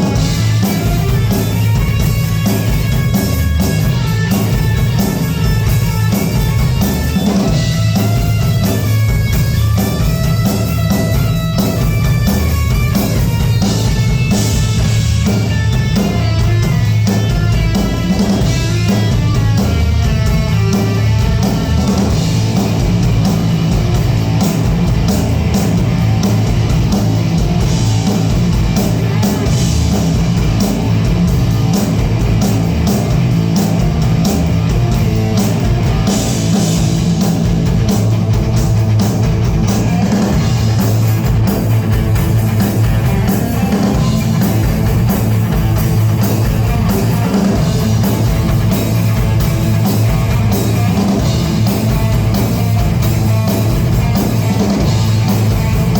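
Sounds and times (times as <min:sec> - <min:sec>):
drum hits: 0:00.0 - 0:55.9
rock band playing: 0:00.0 - 0:55.9.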